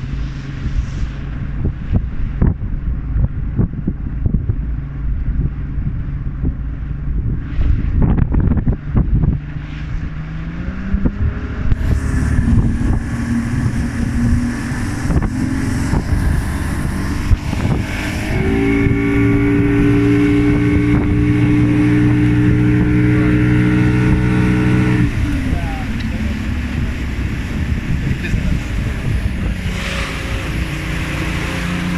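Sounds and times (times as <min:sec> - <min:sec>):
boat engine running: 0:00.0 - 0:31.9
wind buffeting microphone: 0:00.0 - 0:31.9.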